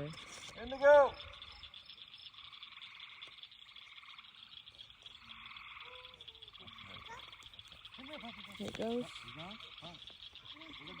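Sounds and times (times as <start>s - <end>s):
frogs trilling: 0.0s - 11.0s.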